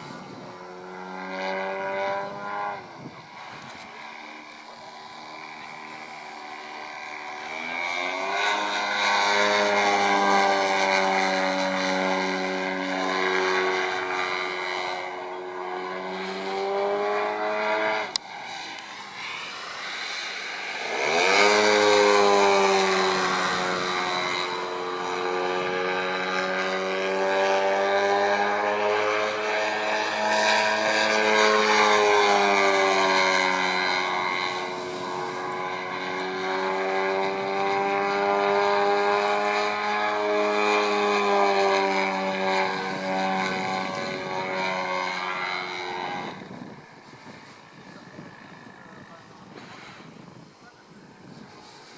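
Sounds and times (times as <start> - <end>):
model plane engine and propeller: 0.0 - 51.9.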